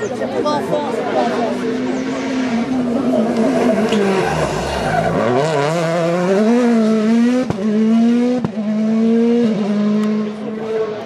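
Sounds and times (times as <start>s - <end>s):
rally car engine accelerating: 1.2s - 11.0s.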